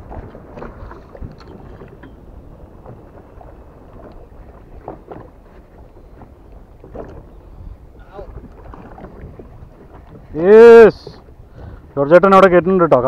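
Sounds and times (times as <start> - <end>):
sea noise: 0.0 - 13.0
wind buffeting microphone: 0.0 - 13.0.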